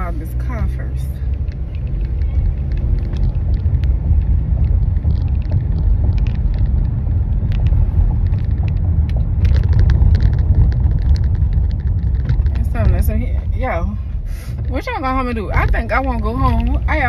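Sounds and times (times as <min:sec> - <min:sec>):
low rumble inside a car: 0:00.0 - 0:17.0
rattles: 0:00.0 - 0:17.0.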